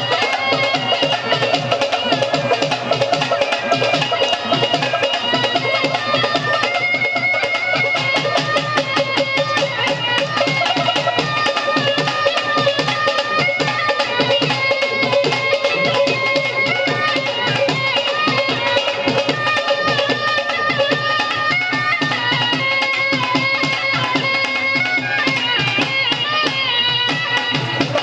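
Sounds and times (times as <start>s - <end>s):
fast steady drumming: 0.0s - 28.0s.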